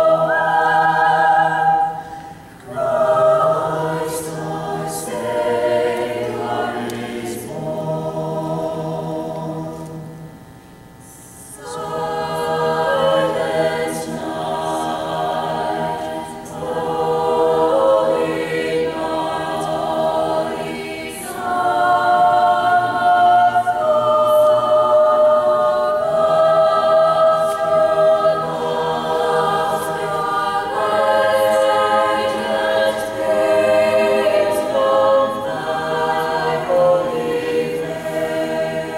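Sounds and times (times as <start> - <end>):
choir singing a cappella: 0.0 - 10.4, 11.1 - 38.9.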